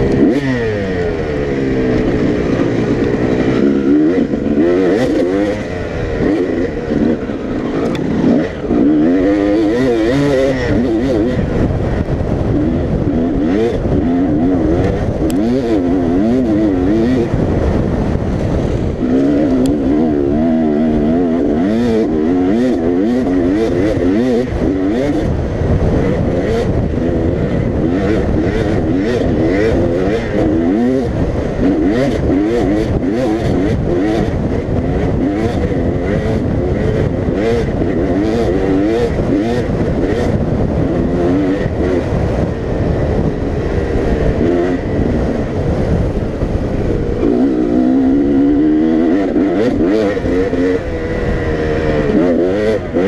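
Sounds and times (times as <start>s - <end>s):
dirt bike engine revving: 0.0s - 53.0s
low rumble: 0.0s - 53.0s.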